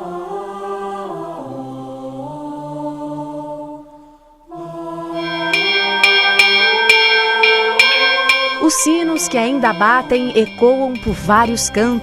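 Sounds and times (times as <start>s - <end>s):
choir-like voices holding chords: 0.0s - 12.0s.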